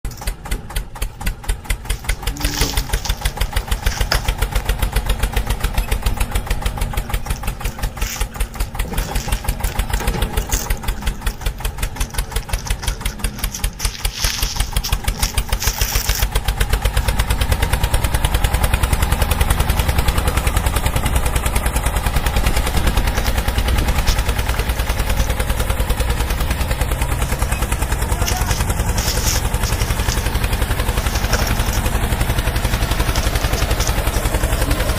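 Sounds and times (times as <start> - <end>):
tractor engine chugging: 0.0 - 34.9.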